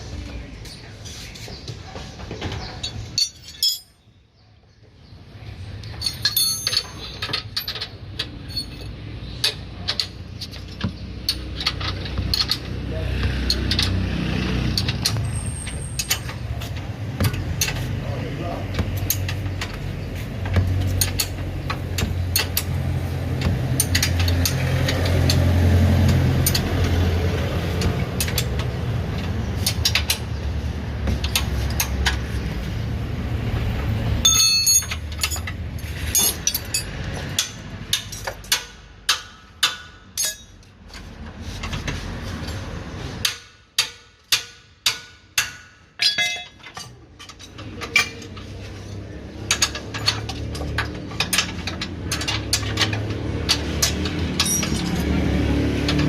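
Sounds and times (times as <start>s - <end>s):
tools clanking on metal: 2.1s - 4.1s, 5.9s - 32.6s, 34.2s - 56.0s.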